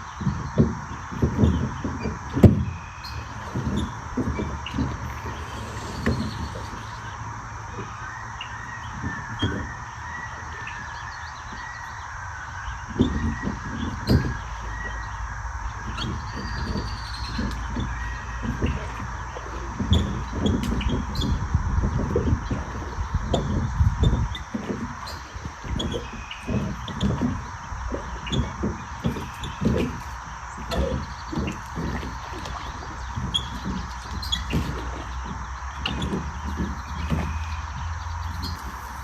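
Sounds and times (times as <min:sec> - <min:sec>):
low thumps on microphone: 0:00.0 - 0:08.0, 0:12.6 - 0:39.0
birds chirping and calling: 0:00.0 - 0:39.0.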